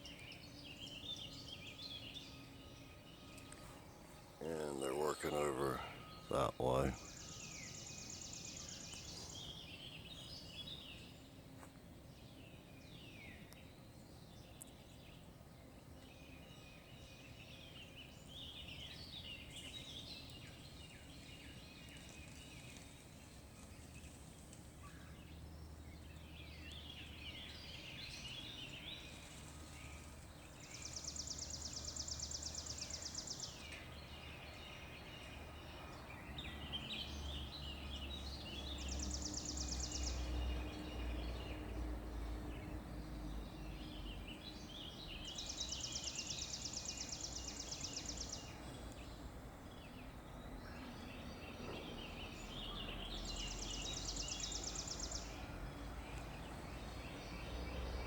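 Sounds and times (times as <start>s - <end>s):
birds chirping and calling: 0.0s - 11.4s, 16.0s - 58.0s.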